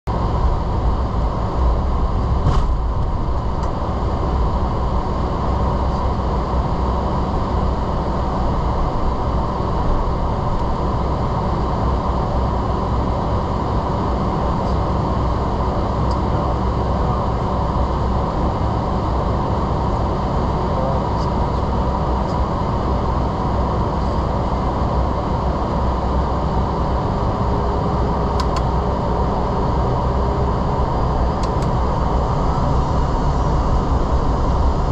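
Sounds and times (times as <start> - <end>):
jet engine cabin rumble: 0.1 - 34.9.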